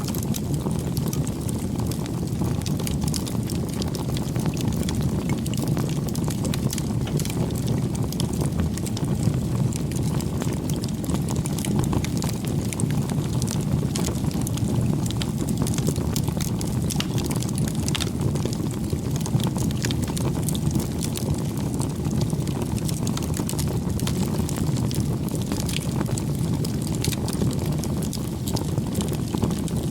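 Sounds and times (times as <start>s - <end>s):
campfire flames rumbling: 0.0s - 29.9s
fire crackling and popping: 0.0s - 29.9s.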